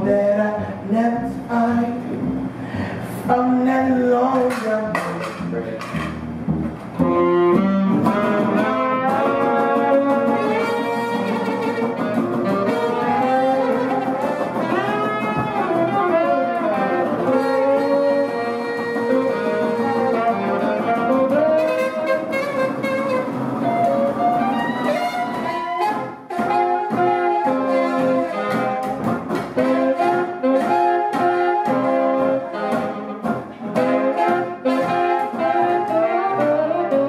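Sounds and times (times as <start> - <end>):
upright bass: 0.0 - 37.0
trombone: 3.8 - 37.0
saxophone: 6.9 - 37.0
trumpet: 7.0 - 37.0.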